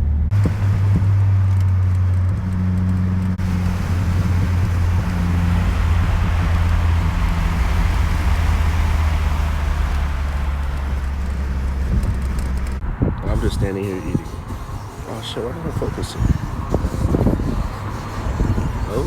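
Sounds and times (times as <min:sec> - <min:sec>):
car engine droning: 0:00.0 - 0:19.0
road noise: 0:00.0 - 0:19.0.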